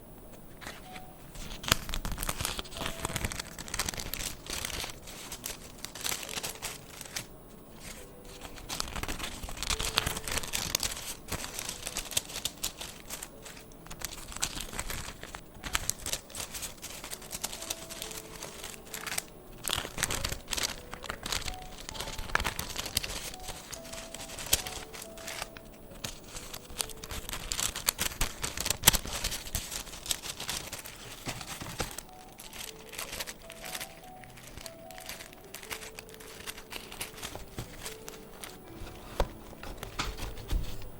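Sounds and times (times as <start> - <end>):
paper rustling and crinkling: 0.3 - 40.9.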